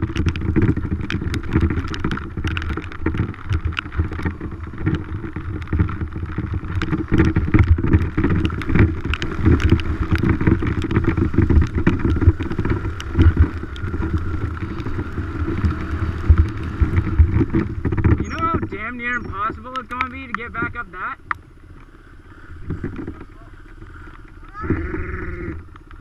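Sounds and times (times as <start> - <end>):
knocks and rattles: 0.0 - 21.9
dirt bike engine running: 0.0 - 26.0.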